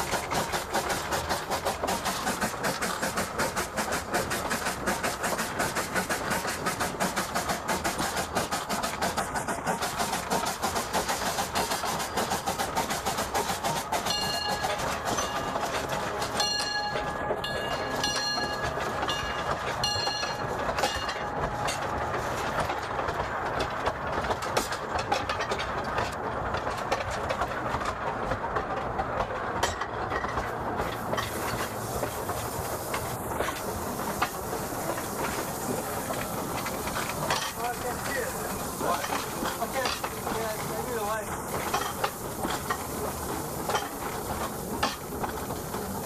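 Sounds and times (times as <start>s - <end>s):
locomotive rumble: 0.0s - 46.0s
wheels clattering on rail: 0.0s - 46.0s.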